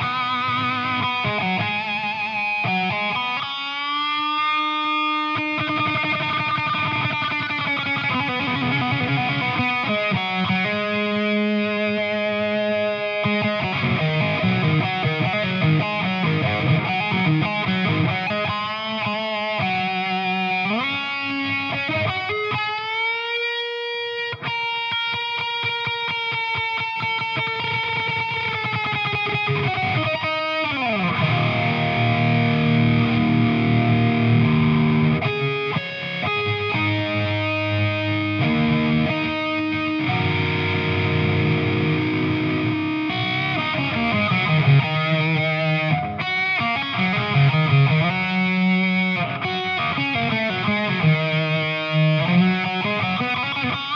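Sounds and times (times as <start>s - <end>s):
distorted electric guitar riffs: 0.0s - 53.9s.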